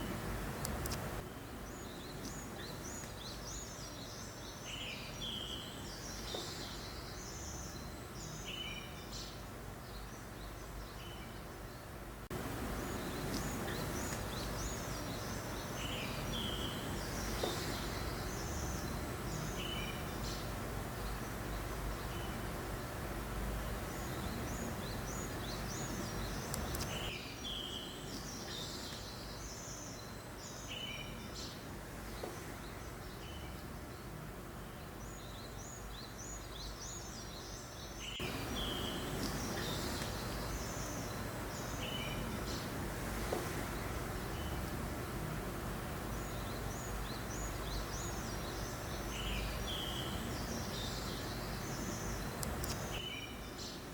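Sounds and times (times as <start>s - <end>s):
gentle breeze hiss: 0.0s - 53.9s
small birds chirping: 0.0s - 53.9s.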